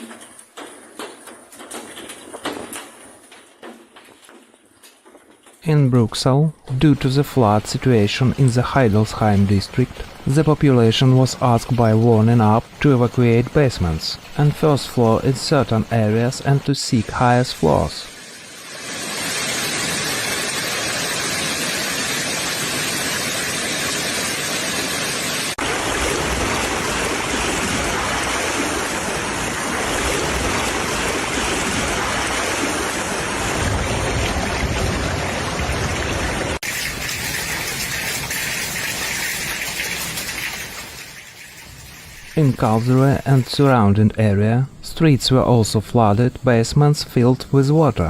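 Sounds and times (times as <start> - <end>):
rushing water: 0.0 - 44.4.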